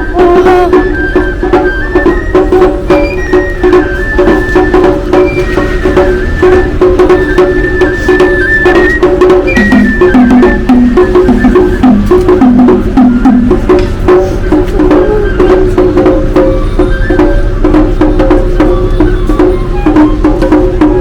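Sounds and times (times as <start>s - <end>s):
drums: 0.0s - 21.0s
high flute melody: 0.0s - 21.0s
lower melody line: 0.0s - 21.0s.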